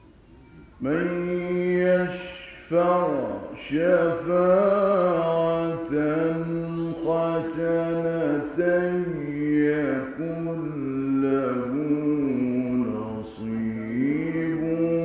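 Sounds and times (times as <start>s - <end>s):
man reciting melodically: 0.8s - 15.0s.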